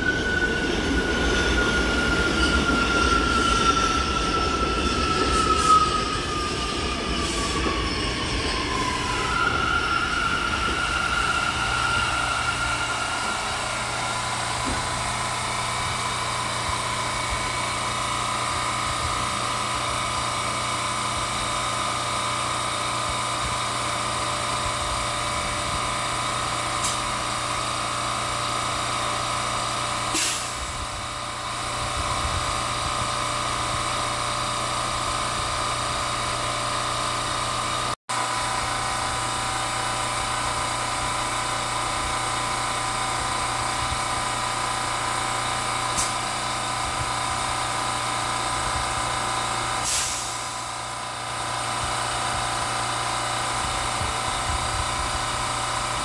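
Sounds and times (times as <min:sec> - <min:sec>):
train equipment low hum: 0:00.0 - 0:56.0.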